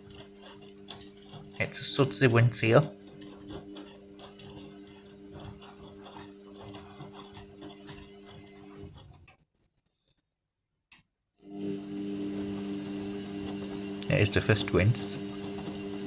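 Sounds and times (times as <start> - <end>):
washing machine hum: 0.0 - 9.3, 11.5 - 16.0.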